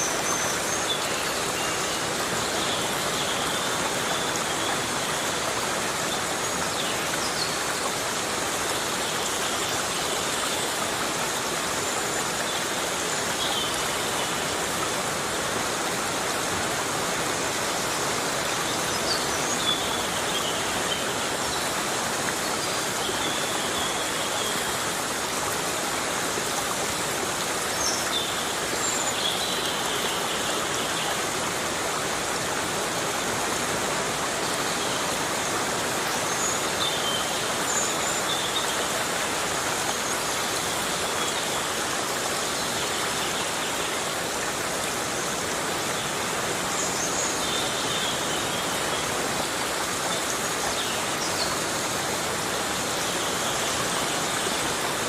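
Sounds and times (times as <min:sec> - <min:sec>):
heavy rain in forest: 0:00.0 - 0:55.0.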